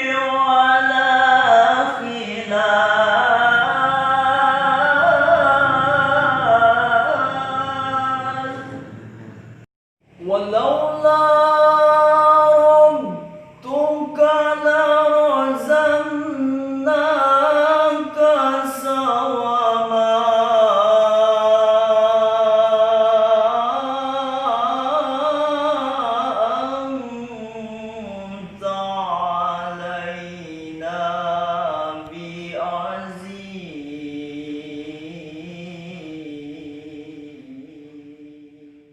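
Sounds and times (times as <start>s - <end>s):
man chanting melodically: 0.0s - 38.9s.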